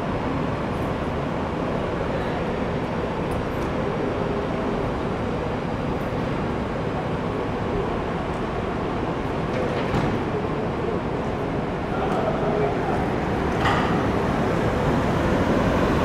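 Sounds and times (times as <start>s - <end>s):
city street noise: 0.0s - 16.0s
tram humming: 0.0s - 16.0s.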